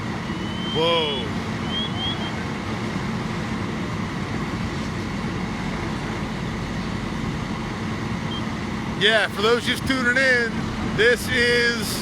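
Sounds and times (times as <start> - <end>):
fire truck engines droning: 0.0 - 12.0.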